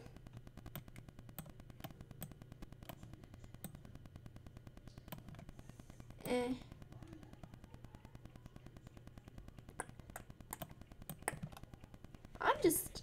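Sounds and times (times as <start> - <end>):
low steady hum: 0.0 - 13.0
computer mouse clicks: 0.1 - 12.4.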